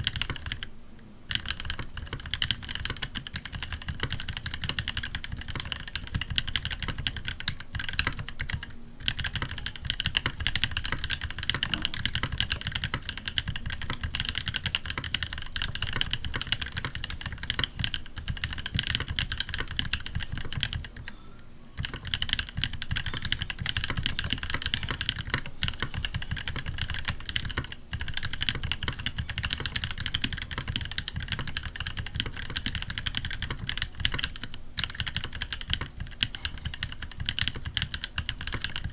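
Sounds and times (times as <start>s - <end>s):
mechanical keyboard typing: 0.0s - 0.7s, 1.3s - 21.1s, 21.8s - 38.9s.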